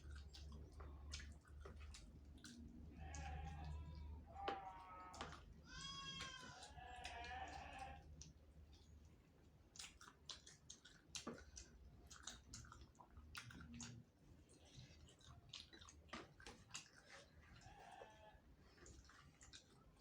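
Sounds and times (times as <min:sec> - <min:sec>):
chewing and crunching bones: 0:00.0 - 0:20.0.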